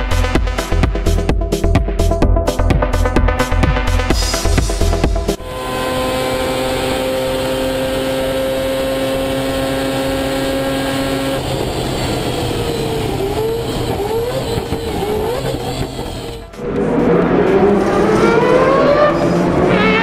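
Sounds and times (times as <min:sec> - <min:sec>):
car engine revving: 0:03.4 - 0:20.0.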